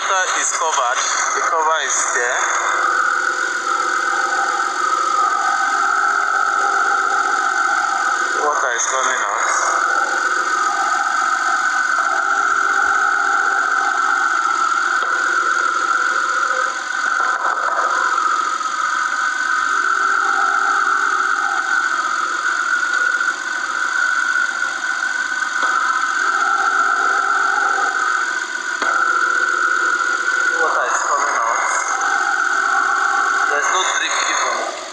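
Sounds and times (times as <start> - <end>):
constant high-pitched tone: 0.0 - 34.9.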